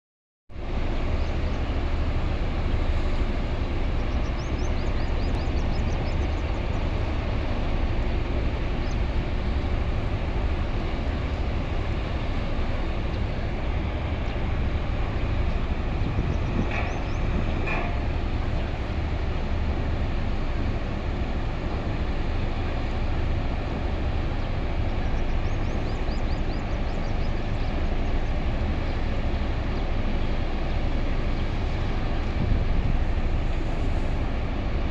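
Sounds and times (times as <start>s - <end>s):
drilling rig machinery rumbling: 0.5s - 34.9s.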